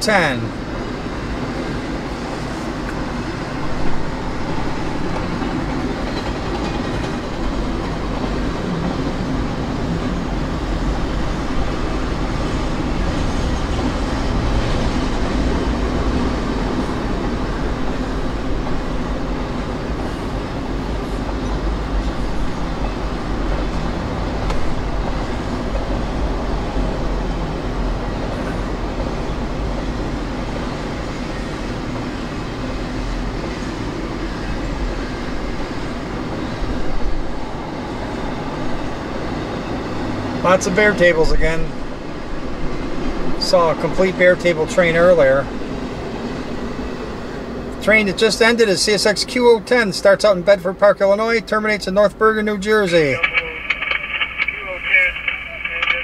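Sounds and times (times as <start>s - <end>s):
freight train wheels on rails: 0.5s - 47.8s, 53.2s - 56.0s.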